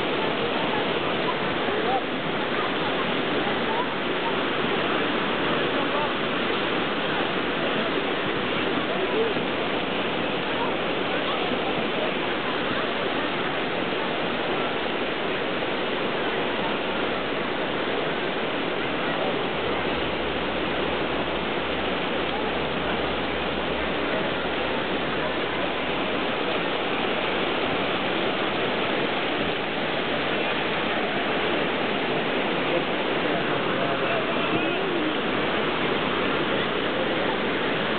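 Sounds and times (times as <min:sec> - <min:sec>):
river rapids rushing over rocks: 0:00.0 - 0:37.9.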